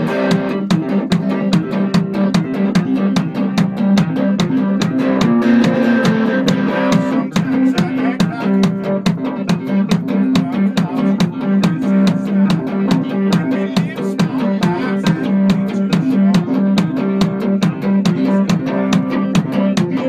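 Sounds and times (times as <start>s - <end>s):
guitar playing low riff: 0.0s - 20.0s.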